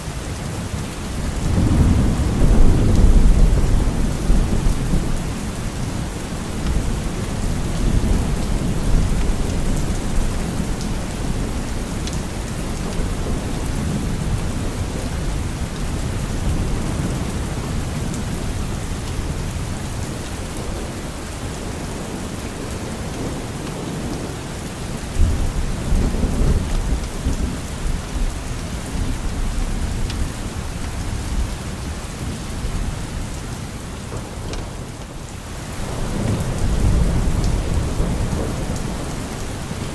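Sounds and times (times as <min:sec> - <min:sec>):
steady rain: 0:00.0 - 0:39.9
low rumble of thunder: 0:00.7 - 0:39.9.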